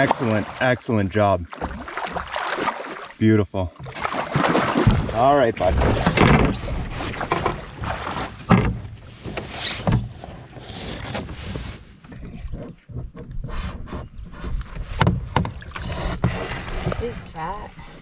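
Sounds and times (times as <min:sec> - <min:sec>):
knocks and bumps in a canoe: 0:00.0 - 0:18.0
water noise: 0:00.0 - 0:18.0
wind: 0:00.0 - 0:18.0.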